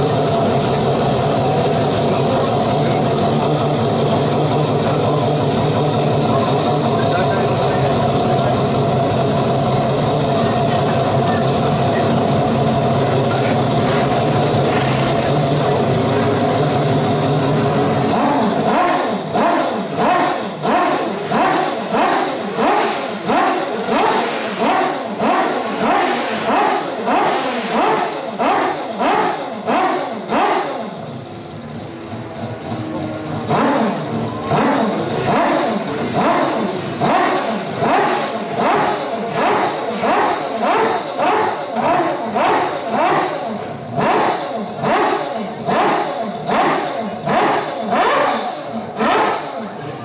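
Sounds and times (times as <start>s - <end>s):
rotary racing engine revving: 0.0s - 50.0s.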